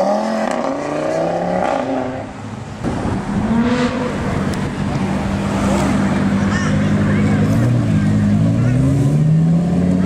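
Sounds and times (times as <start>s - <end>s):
sports car engines driving past: 0.0s - 10.0s.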